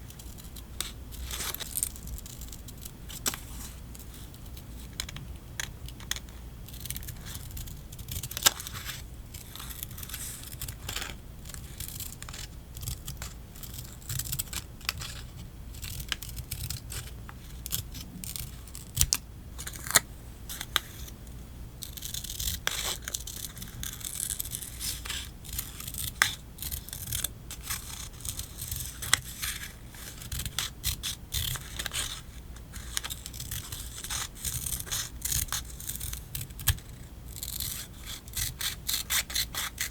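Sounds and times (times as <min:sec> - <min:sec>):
stickers being peeled: 0:04.4 - 0:21.1, 0:21.8 - 0:39.9.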